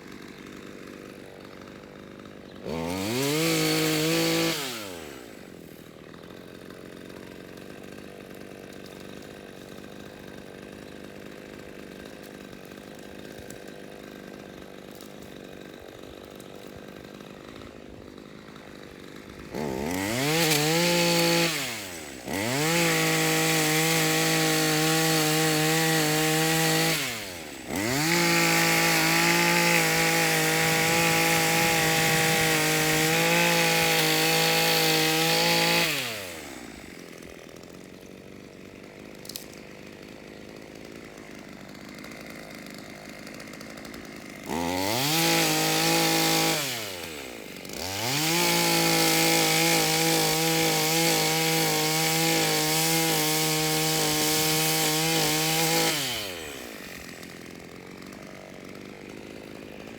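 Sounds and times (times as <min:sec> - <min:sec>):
chainsaw engine revving and idling: 0:00.0 - 0:59.9.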